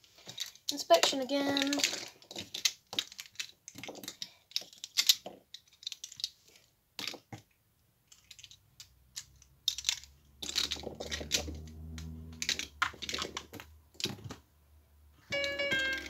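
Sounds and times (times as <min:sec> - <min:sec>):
plastic cube pieces clicking: 0:00.1 - 0:14.5, 0:15.4 - 0:16.0.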